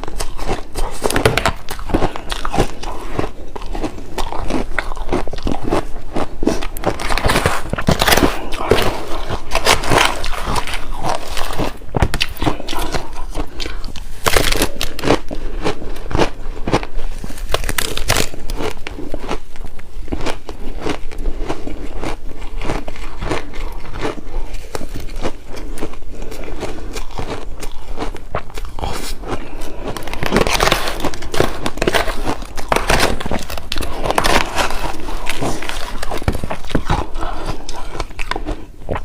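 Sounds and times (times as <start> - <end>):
shaved ice crunching while chewed: 0.0 - 39.0.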